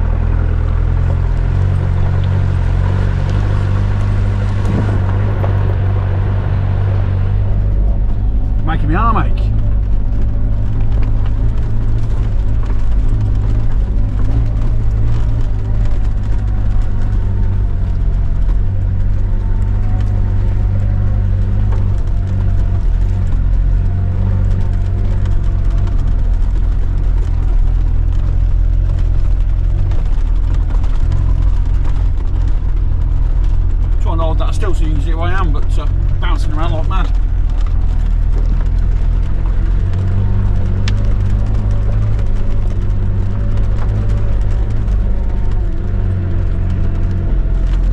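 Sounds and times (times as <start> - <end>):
truck engine pulling in low gear: 0.0 - 47.9.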